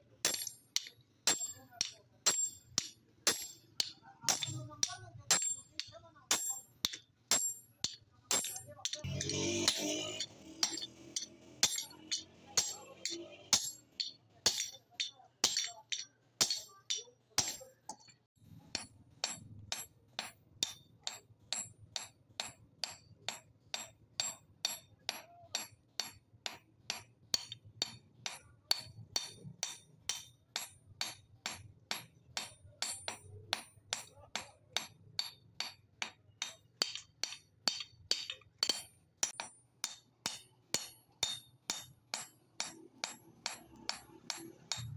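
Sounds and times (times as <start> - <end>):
hammer clinking on anvil: 0.2 - 44.9.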